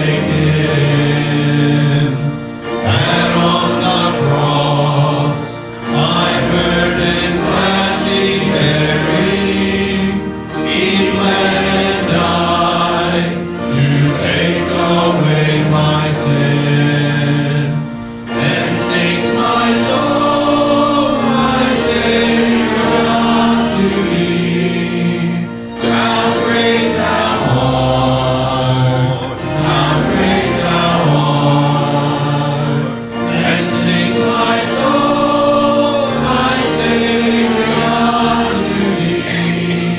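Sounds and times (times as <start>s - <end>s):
choir singing a hymn: 0.0s - 39.9s
musical accompaniment: 0.0s - 39.9s.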